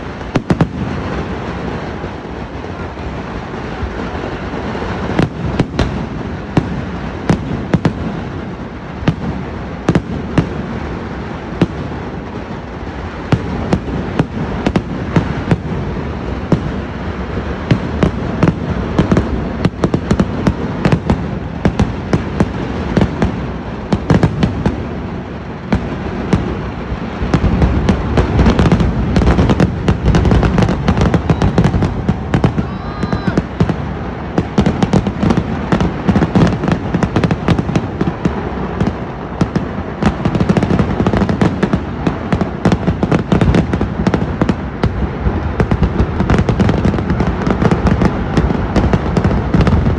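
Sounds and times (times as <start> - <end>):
constant rumble: 0.0 - 49.9
fireworks bangs: 0.0 - 49.9.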